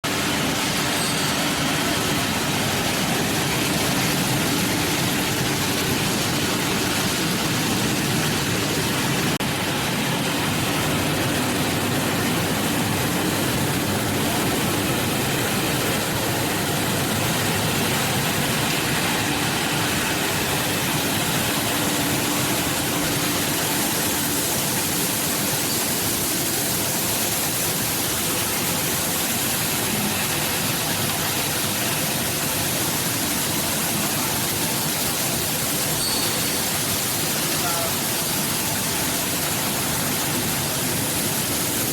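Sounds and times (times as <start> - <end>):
blower and motor hum: 0.0 - 41.9.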